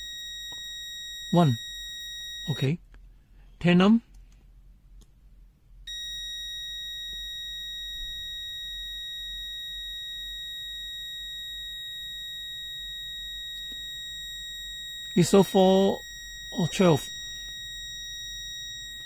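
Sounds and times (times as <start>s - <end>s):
multimeter continuity beep: 0.0s - 2.8s, 5.9s - 19.0s.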